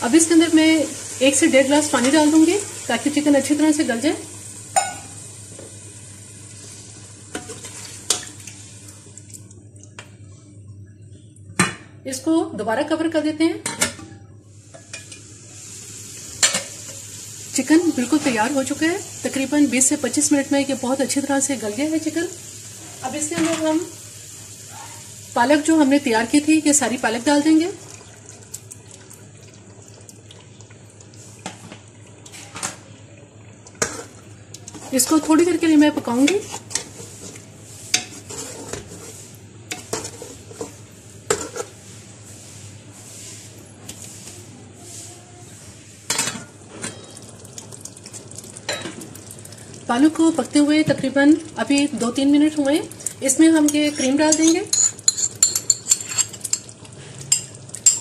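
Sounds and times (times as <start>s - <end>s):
curry sizzling in a pot: 0.0s - 10.0s, 14.5s - 58.0s.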